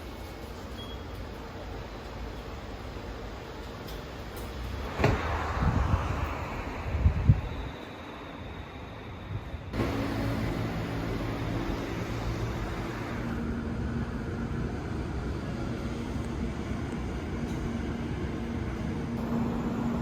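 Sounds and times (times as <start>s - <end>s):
train running rumble: 1.6s - 20.0s.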